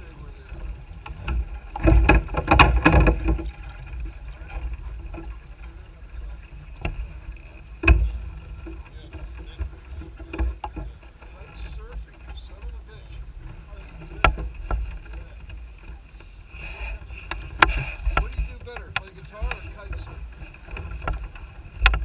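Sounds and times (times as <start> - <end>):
knocks and rattles of boat gear: 0.0 - 22.0
wind and water rumble on microphone: 0.0 - 22.0.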